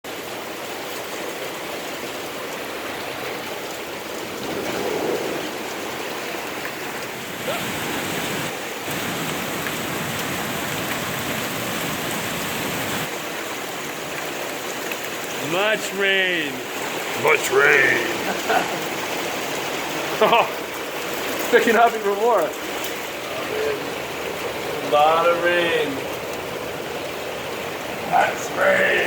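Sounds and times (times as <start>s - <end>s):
heavy rain falling: 0.1s - 29.0s.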